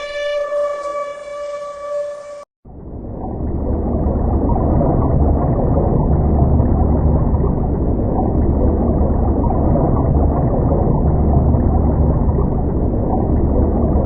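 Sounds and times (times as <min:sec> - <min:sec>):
deep hum: 0:00.0 - 0:14.0
low rumbling noise: 0:00.0 - 0:14.0.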